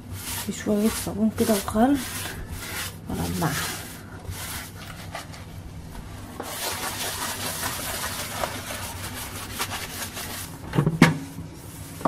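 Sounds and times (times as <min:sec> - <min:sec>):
cloth scrubbing stone countertop: 0:00.0 - 0:05.6, 0:06.2 - 0:10.6.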